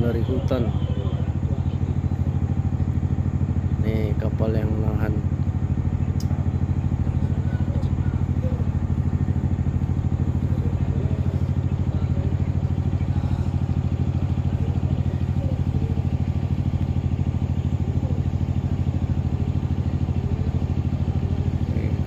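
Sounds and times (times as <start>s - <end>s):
boat engine chugging: 0.0s - 22.0s.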